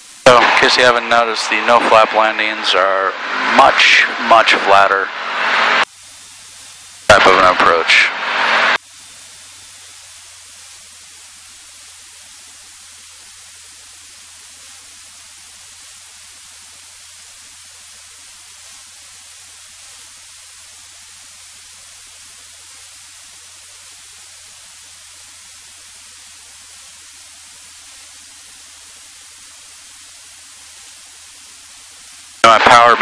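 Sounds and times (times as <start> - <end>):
cockpit intercom hiss: 0.0 - 33.0.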